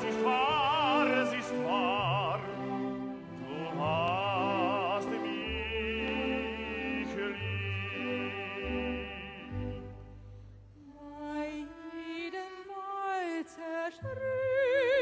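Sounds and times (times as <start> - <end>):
operatic singing with orchestra: 0.0 - 10.2, 10.8 - 15.0.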